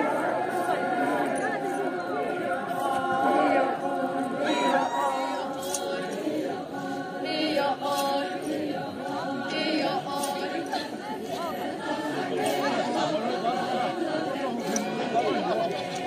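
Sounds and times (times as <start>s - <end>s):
group singing unaccompanied: 0.0s - 16.0s.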